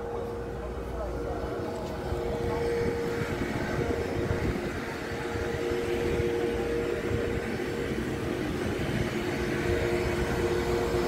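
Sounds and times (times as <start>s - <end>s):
low uneven rumble: 0.0s - 11.0s
ventilation machinery hum: 0.0s - 11.0s.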